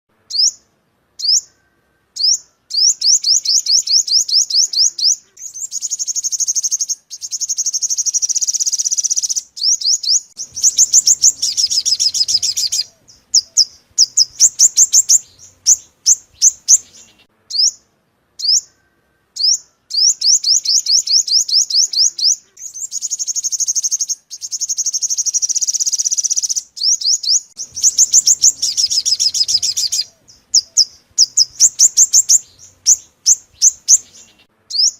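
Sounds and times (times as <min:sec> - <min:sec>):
sunbird chirping song: 0:00.1 - 0:34.9
buzzy bird trills: 0:01.2 - 0:17.8, 0:18.4 - 0:34.9.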